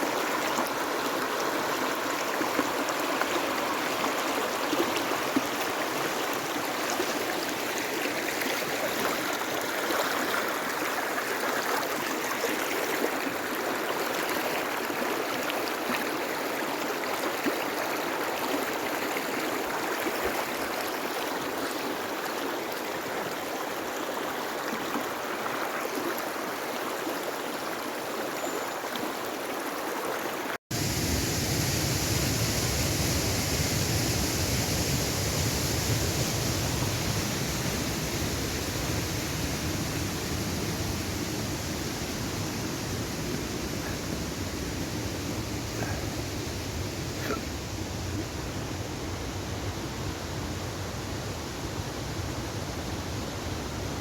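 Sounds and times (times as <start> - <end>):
river water rushing: 0.0 - 49.7.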